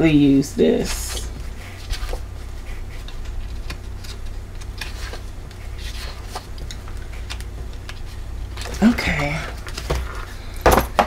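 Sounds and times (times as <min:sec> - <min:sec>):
low steady hum: 0:00.0 - 0:11.0
paper pages flipping: 0:00.8 - 0:10.4.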